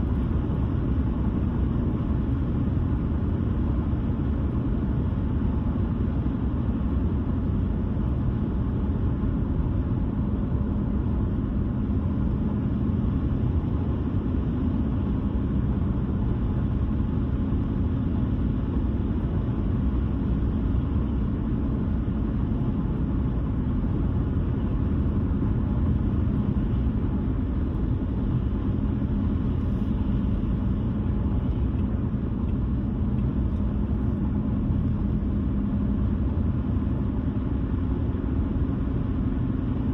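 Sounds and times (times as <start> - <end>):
car driving road rumble: 0.0 - 39.9.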